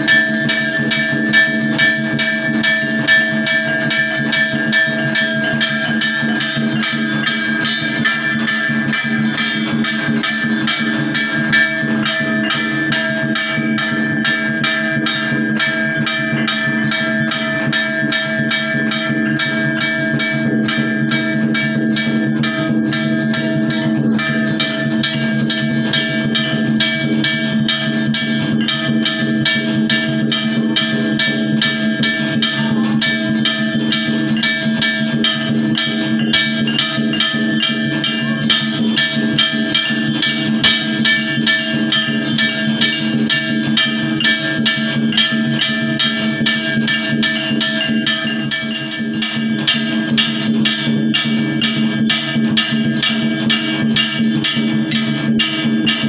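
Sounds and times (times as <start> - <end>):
quick percussion beat: 0.0 - 56.0
sustained ringing tones: 0.0 - 56.0.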